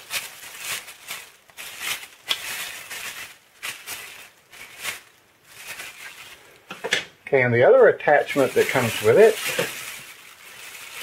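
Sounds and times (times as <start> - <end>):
plastic bag crinkling: 0.0 - 6.7, 8.0 - 11.0.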